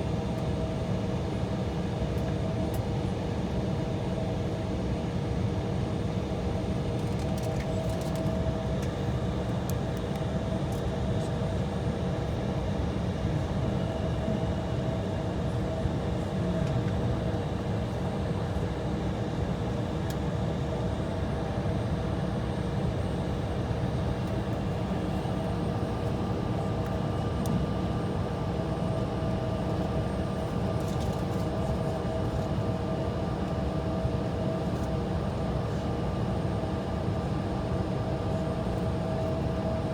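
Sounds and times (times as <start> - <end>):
airliner cabin low rumble: 0.1 - 39.9.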